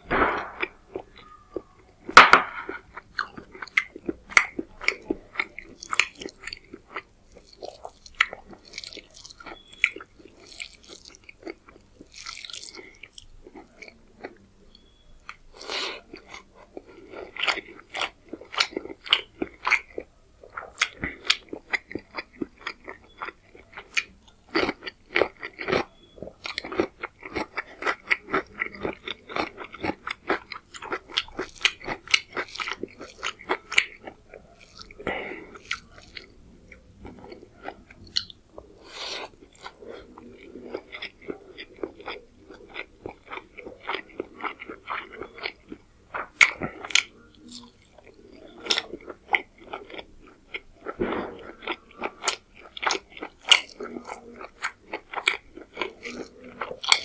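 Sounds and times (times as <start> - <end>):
close chewing with mouth smacks: 0.2 - 57.0.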